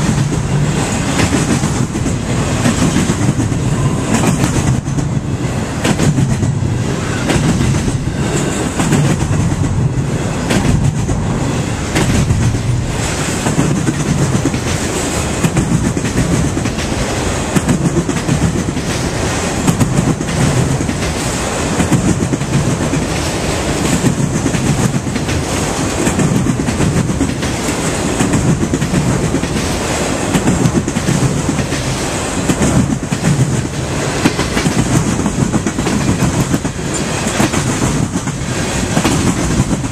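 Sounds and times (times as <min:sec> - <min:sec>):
freight train rumbling past: 0:00.0 - 0:39.9
train cars rattling: 0:00.0 - 0:39.9
wheels clacking over rail joints: 0:00.0 - 0:39.9.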